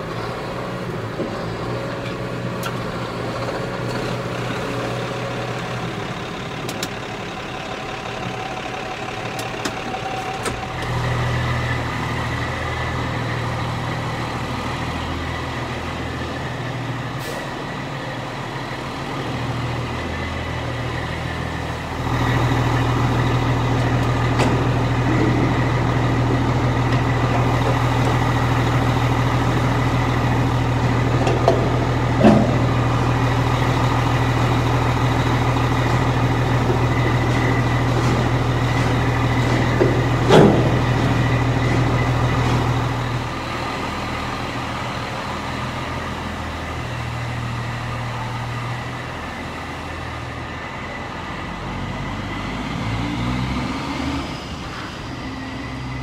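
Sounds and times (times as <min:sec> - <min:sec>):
truck engine idling: 0:00.0 - 0:53.0
tractor engine from inside cab: 0:00.0 - 0:56.0.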